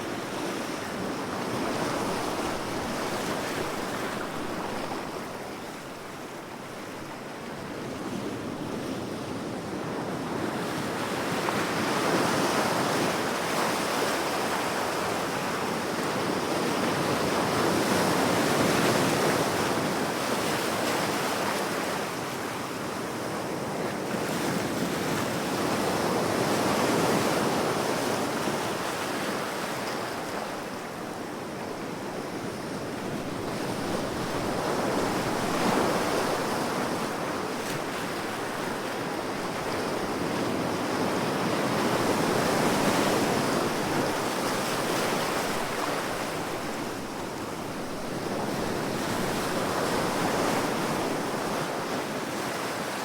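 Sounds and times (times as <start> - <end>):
ocean waves breaking on shore: 0.0 - 53.0
wind: 0.0 - 53.0.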